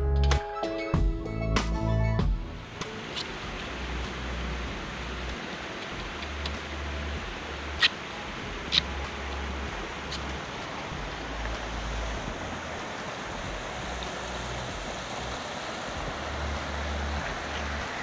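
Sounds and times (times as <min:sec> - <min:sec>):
hiss of running water: 0:02.6 - 0:18.0.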